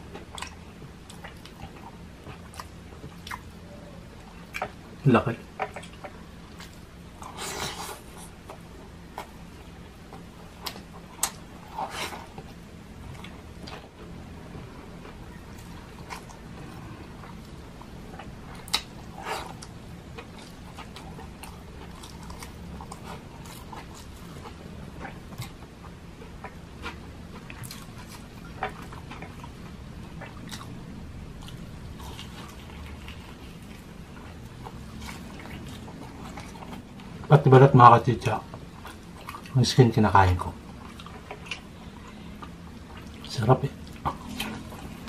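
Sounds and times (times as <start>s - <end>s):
person chewing food: 0.0s - 37.4s, 38.3s - 39.6s, 40.4s - 45.0s
low steady hum: 0.0s - 45.0s.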